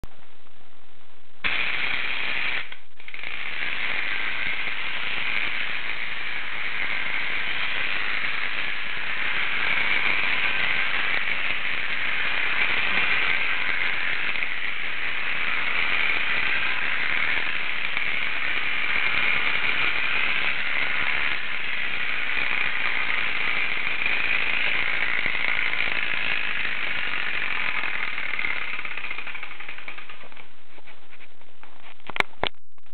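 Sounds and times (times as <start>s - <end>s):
clockwork toy motor whirring: 1.4s - 30.5s.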